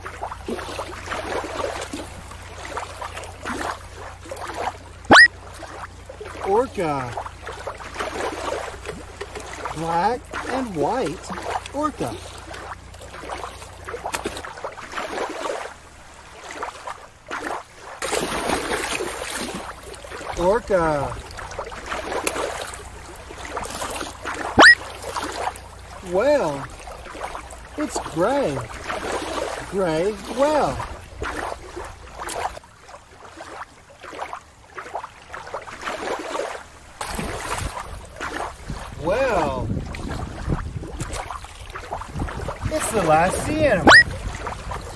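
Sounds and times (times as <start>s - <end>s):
orca splashing in pool: 0.0s - 44.9s
water lapping and sloshing: 0.0s - 44.9s.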